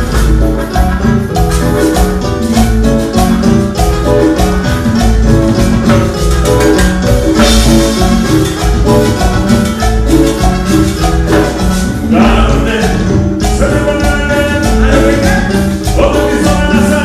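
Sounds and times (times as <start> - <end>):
congas: 0.0 - 17.0
drum kit: 0.0 - 17.0
keyboards: 0.0 - 17.0
latin dance band over loudspeakers: 0.0 - 17.0
steady bass beat: 0.0 - 17.0.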